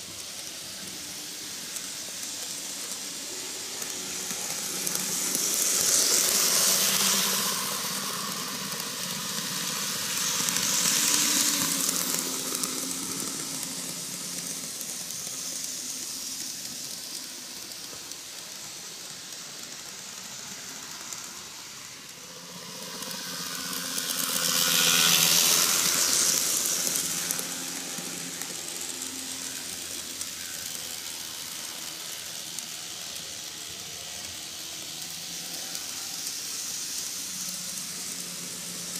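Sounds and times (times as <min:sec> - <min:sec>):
model trains whirring on rails: 0:00.0 - 0:38.9.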